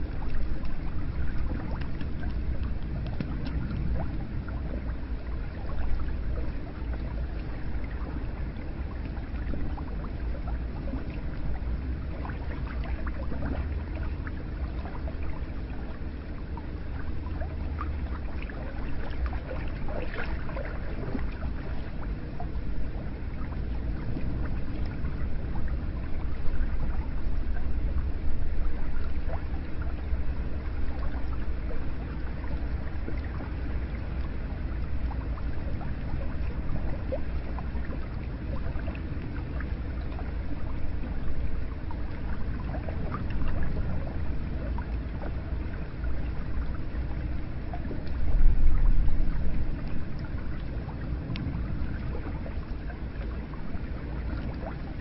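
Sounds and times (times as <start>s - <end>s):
deep low rumble: 0.0s - 55.0s
small drips and splashes: 0.0s - 55.0s.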